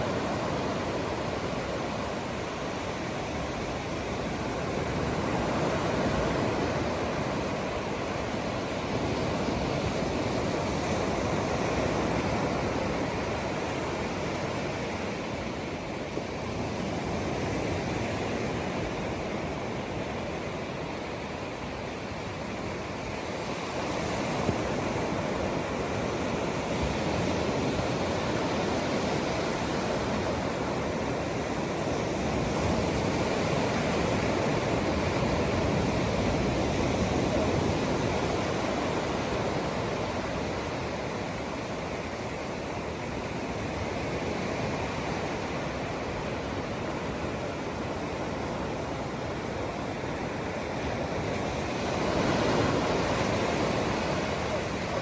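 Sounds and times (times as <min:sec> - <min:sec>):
surf washing on beach: 0:00.0 - 0:55.0.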